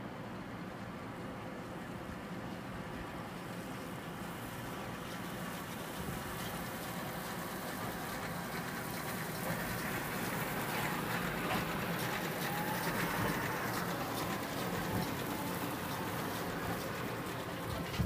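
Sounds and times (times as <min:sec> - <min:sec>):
farm machinery engine hum: 0:00.1 - 0:18.0.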